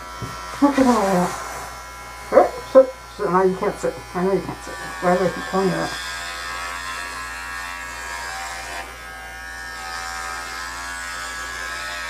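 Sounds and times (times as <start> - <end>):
pet clippers shaving fur: 0.0 - 12.0.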